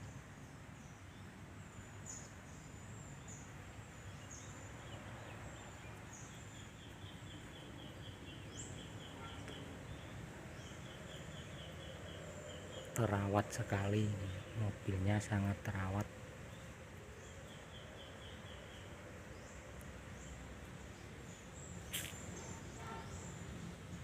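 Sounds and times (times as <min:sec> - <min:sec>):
birds chirping: 0:00.0 - 0:24.0
outdoor background noise: 0:00.0 - 0:24.0.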